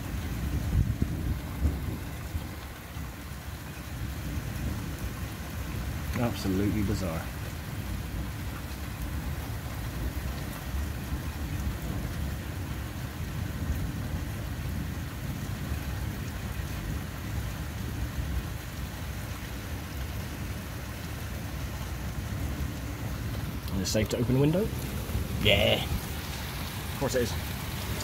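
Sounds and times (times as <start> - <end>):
low rumble of thunder: 0.0 - 28.0
steady rain: 0.0 - 28.0.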